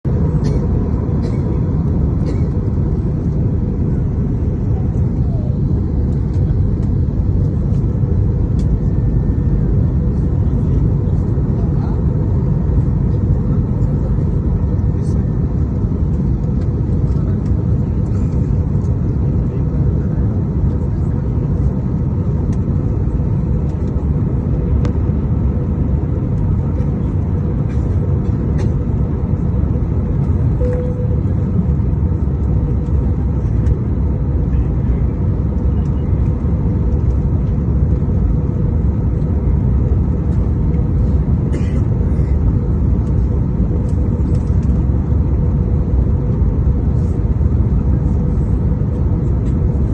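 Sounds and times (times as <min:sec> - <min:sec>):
aircraft cabin rumble: 0:00.0 - 0:49.9.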